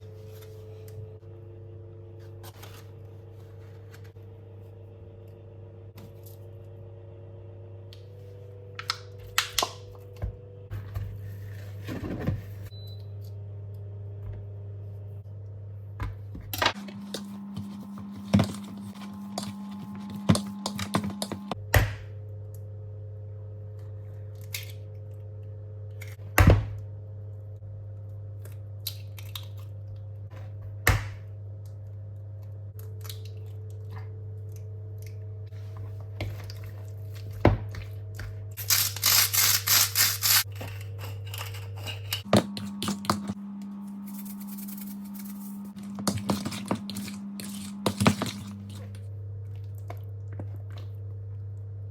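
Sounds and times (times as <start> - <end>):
steady electrical hum: 0.0 - 51.9.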